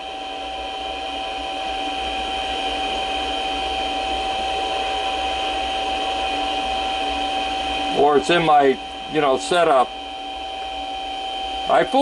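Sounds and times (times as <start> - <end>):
lathe motor whine: 0.0 - 12.0.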